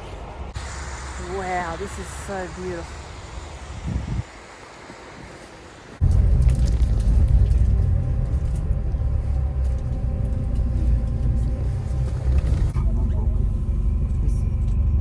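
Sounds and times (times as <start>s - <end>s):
bus engine rumble inside cabin: 0.0s - 15.0s.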